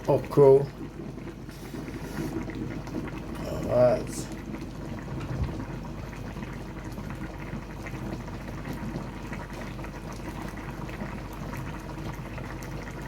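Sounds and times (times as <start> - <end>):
pot simmering and bubbling: 0.0 - 13.0.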